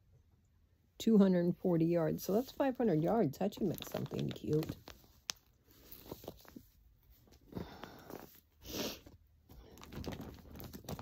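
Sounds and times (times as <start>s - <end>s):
yarn handling sounds: 1.8s - 11.0s.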